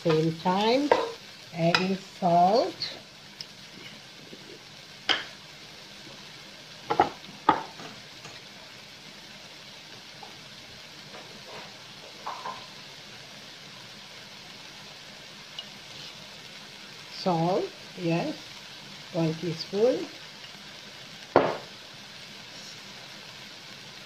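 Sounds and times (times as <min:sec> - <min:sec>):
filling sizzling in a wok: 0:00.0 - 0:24.0.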